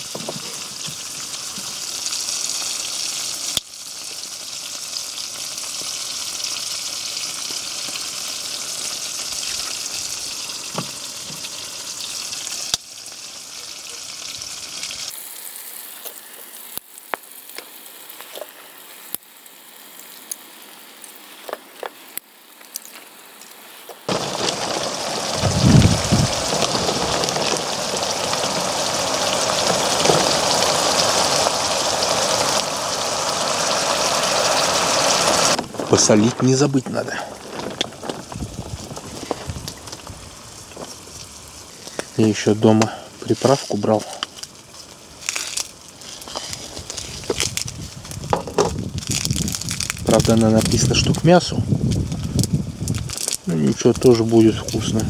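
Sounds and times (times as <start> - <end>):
food sizzling in frying pan: 0.0 - 55.0.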